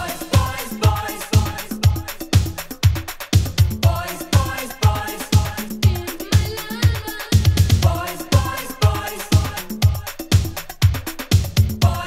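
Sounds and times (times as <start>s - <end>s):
disco dance track from vinyl: 0.0s - 12.0s.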